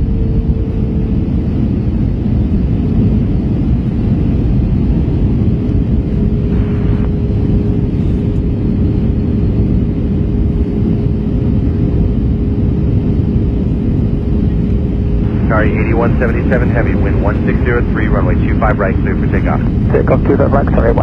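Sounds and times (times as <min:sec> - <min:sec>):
airliner cabin engine rumble: 0:00.0 - 0:21.0
steady hum: 0:00.0 - 0:21.0.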